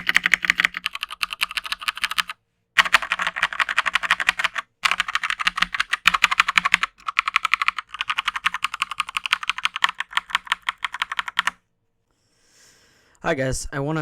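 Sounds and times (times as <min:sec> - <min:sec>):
mechanical keyboard typing: 0:00.0 - 0:11.6.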